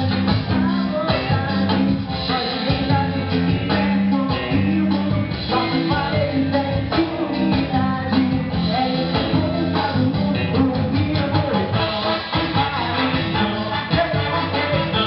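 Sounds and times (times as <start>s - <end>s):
bass guitar: 0.0s - 15.0s
drum kit: 0.0s - 15.0s
electric guitar: 0.0s - 15.0s
person singing: 0.0s - 15.0s.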